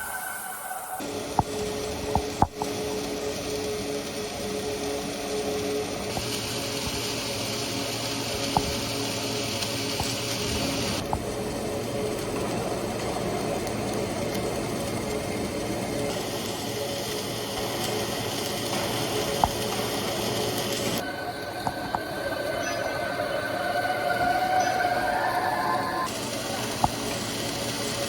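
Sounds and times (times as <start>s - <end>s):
machine humming and hissing: 0.0s - 28.0s.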